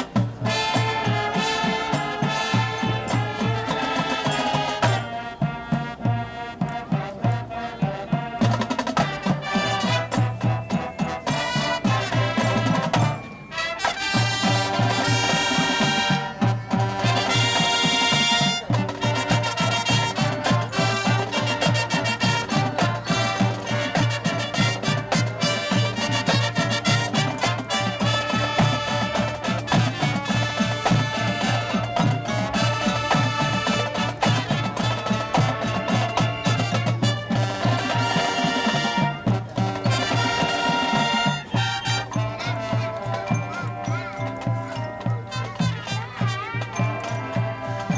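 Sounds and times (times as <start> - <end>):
drums keeping steady beat: 0.0 - 47.9
marching band brass: 0.0 - 47.9.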